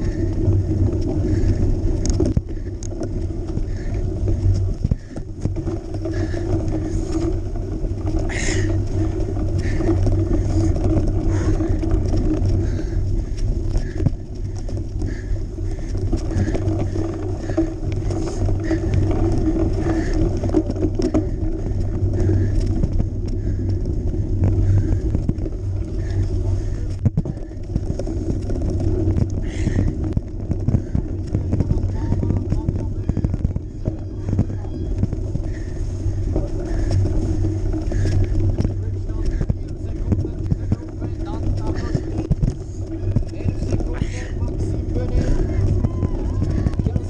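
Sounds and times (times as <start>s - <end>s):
bike tyre and drivetrain noise: 0.0s - 47.0s
wind rumble: 0.0s - 47.0s.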